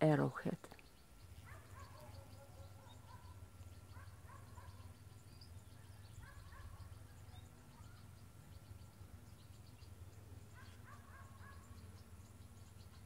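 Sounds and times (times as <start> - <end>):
low steady hum: 0.0 - 13.0
distant bird calling: 0.5 - 13.0.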